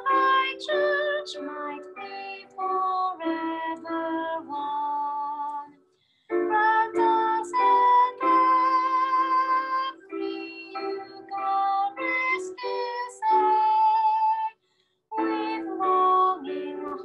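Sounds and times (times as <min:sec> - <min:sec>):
woman singing a hymn: 0:00.0 - 0:05.7, 0:06.4 - 0:14.5, 0:15.2 - 0:17.0
sustained keyboard accompaniment: 0:00.0 - 0:14.5, 0:15.1 - 0:17.0.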